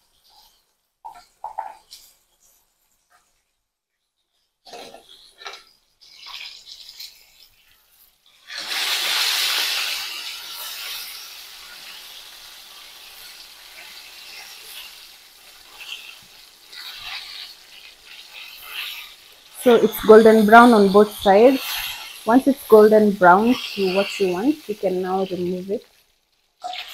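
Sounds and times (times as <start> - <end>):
food sizzling in deep-frying oil: 0.0 - 3.5, 4.2 - 26.9.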